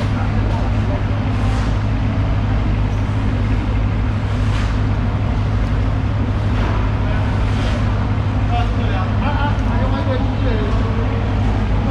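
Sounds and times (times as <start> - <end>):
low mechanical drone: 0.0 - 11.9.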